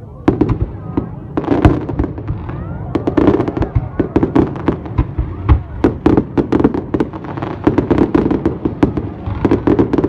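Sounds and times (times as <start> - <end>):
fireworks booms: 0.2 - 10.0
fireworks cracking and popping: 0.3 - 10.0.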